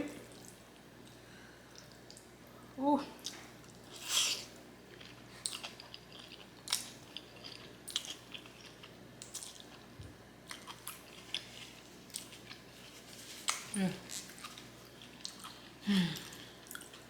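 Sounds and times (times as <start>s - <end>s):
wet chewing and crunching: 3.2s - 17.0s.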